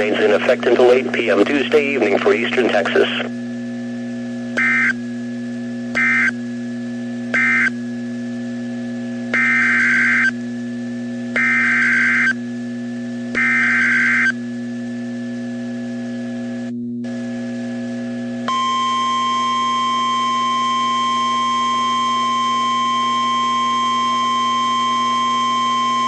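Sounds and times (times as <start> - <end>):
steady hum of tones: 0.0 - 26.0.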